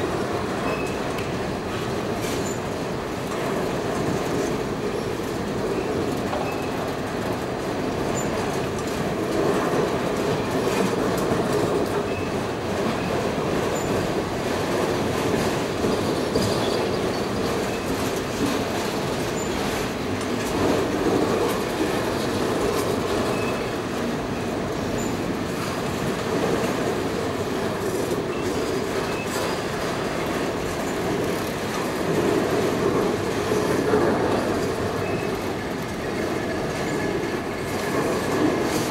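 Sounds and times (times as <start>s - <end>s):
freight train rumbling past: 0.0s - 38.9s
wheels clicking over rail joints: 0.0s - 38.9s.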